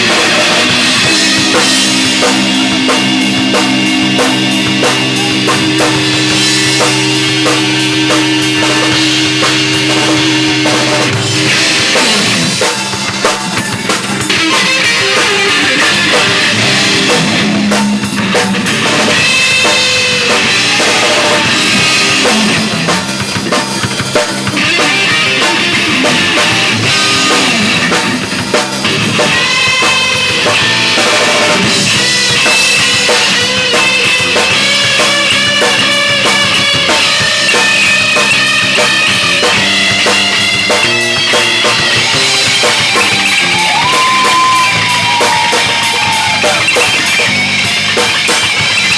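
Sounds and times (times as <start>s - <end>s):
rock band playing instrumental: 0.0s - 48.9s.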